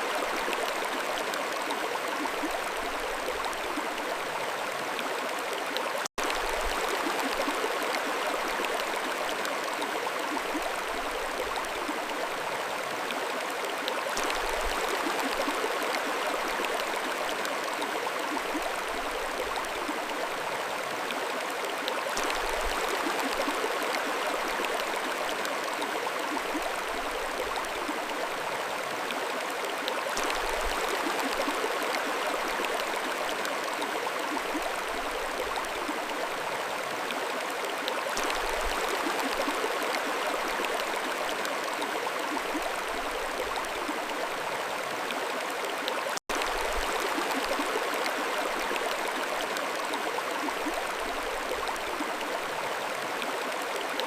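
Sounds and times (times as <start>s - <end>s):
mountain stream flowing: 0.0s - 54.0s.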